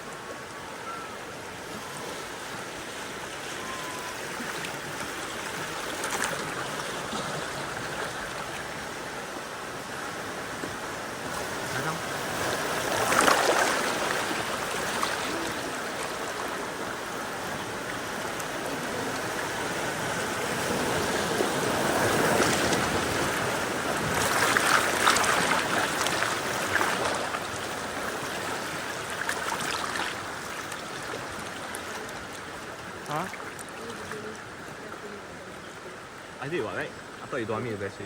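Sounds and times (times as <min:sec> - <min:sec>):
river water rushing and splashing: 0:00.0 - 0:38.0.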